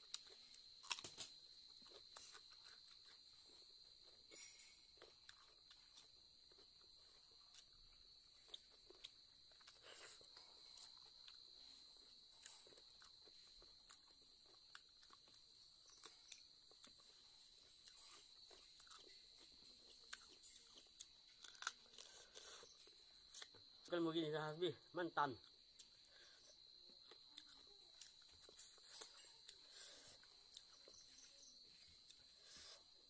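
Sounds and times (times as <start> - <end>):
person chewing: 0.0 - 23.8, 25.4 - 33.0.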